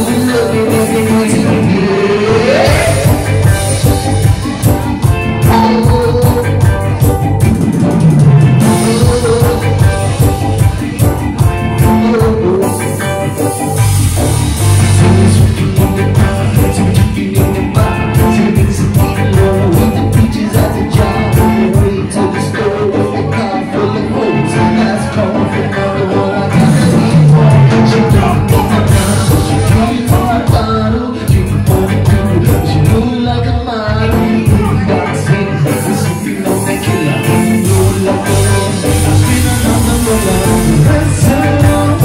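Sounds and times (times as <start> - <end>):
steady drum beat: 0.0 - 22.2, 26.6 - 33.2, 34.2 - 42.0
bass guitar: 0.0 - 42.0
keyboard: 0.0 - 42.0
person singing: 0.0 - 42.0.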